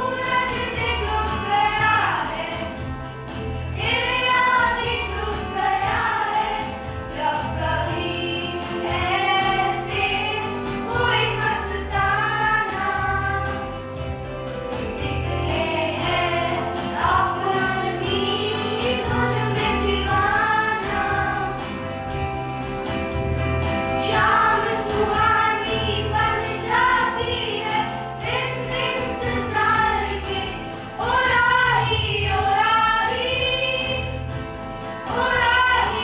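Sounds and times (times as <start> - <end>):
group singing: 0.0 - 2.9, 3.7 - 14.0, 14.8 - 22.2, 24.0 - 36.0
instrumental accompaniment with bass: 0.0 - 36.0.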